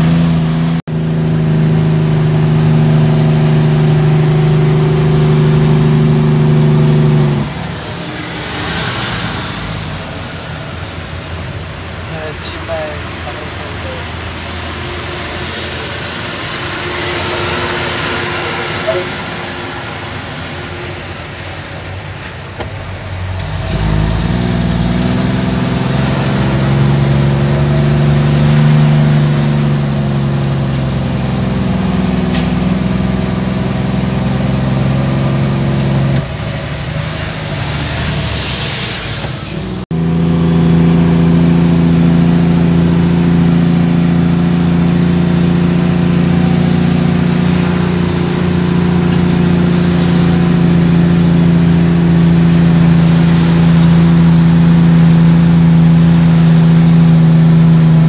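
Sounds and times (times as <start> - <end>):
truck diesel engine running: 0.0 - 38.3, 39.2 - 58.0.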